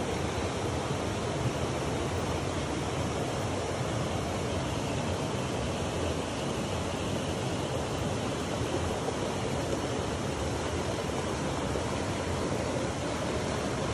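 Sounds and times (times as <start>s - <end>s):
stream flowing over rocks: 0.0s - 13.9s.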